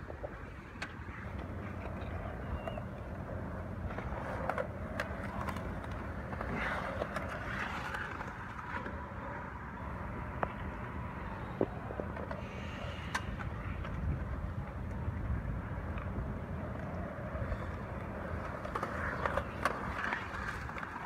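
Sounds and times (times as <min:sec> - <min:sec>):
skateboards clacking on concrete: 0:00.0 - 0:21.0
skateboards rolling on concrete: 0:00.0 - 0:21.0.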